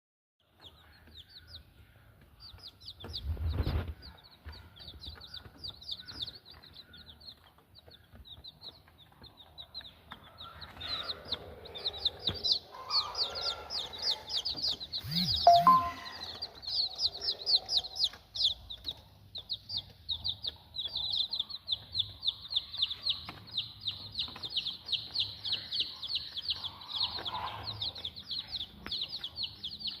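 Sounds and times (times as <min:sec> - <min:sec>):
chicks peeping: 0:00.4 - 0:30.0.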